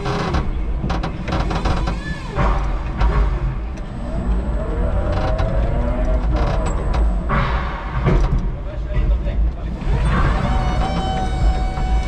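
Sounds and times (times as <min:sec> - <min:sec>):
forklift rumble and whine: 0:00.0 - 0:12.0.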